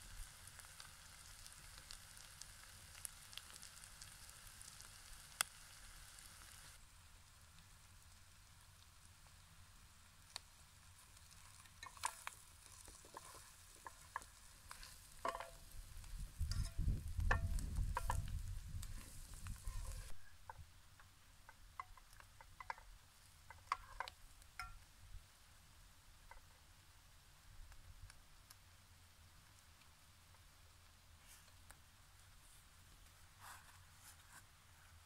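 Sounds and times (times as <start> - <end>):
light sizzle: 0.0 - 35.0.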